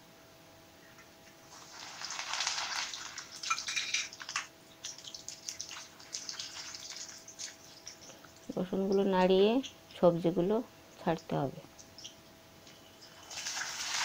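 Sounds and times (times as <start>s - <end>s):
oil sizzling and crackling: 1.4s - 10.0s, 10.9s - 14.0s.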